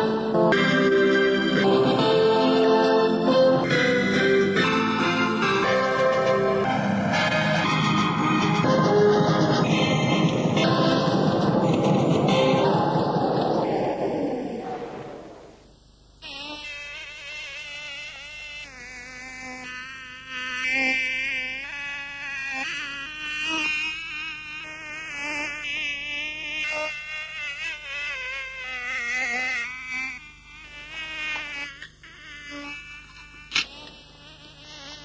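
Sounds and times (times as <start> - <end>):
fly buzzing: 0.0 - 14.1, 16.2 - 35.0.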